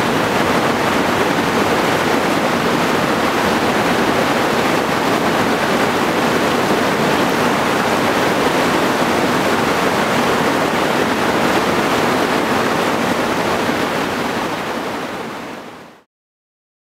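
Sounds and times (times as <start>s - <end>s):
whitewater roaring: 0.0s - 16.0s.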